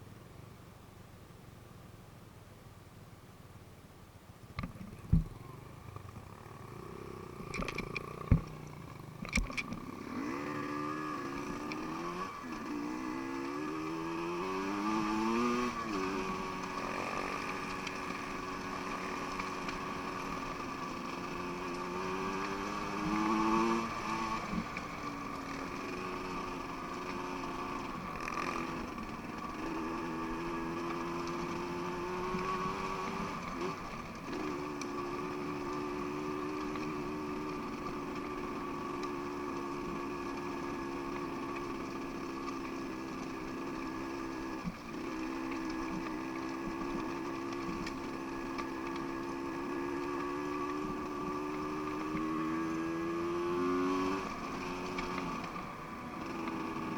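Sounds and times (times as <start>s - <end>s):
dirt bike engine revving: 5.3s - 56.9s.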